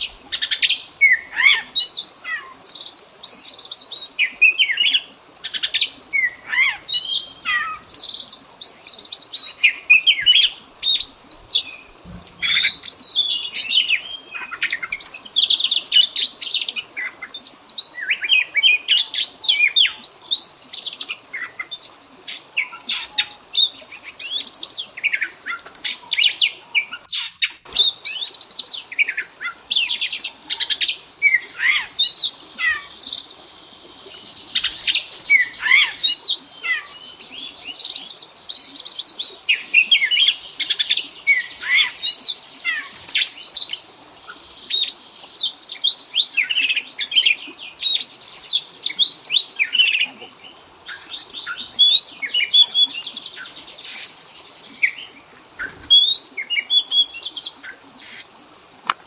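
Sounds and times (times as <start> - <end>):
bird singing whistles and chirps: 0.0 - 33.4, 34.5 - 58.8.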